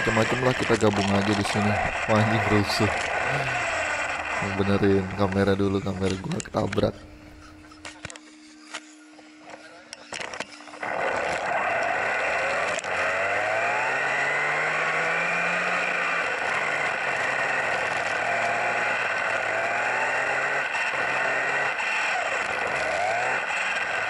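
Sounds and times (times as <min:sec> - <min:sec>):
rc car motor whine: 0:00.0 - 0:24.0.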